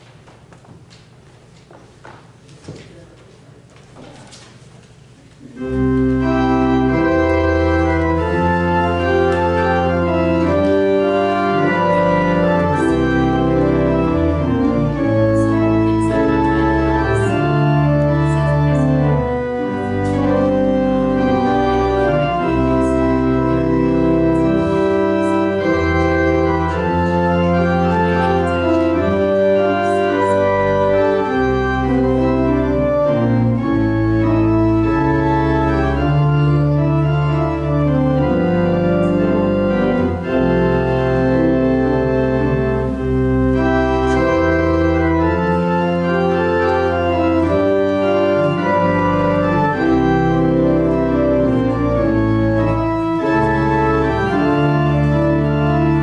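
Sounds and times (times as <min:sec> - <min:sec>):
church organ chords: 0:05.5 - 0:56.0.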